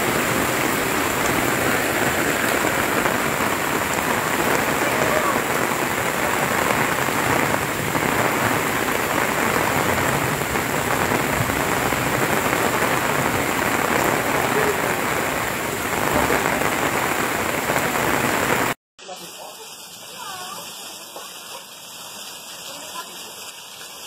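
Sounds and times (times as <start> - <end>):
floodwater rushing down street: 0.0 - 24.0
heavy rain pouring: 0.0 - 24.0.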